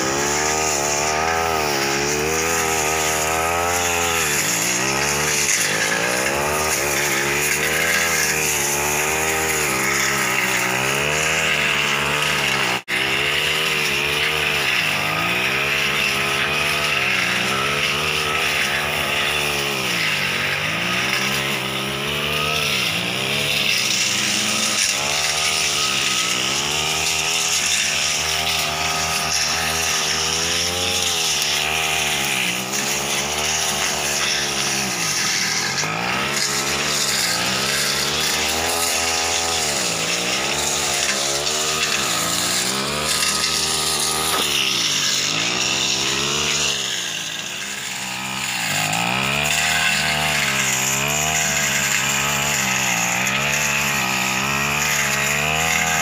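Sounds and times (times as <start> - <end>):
brush cutter engine revving: 0.0 - 56.0.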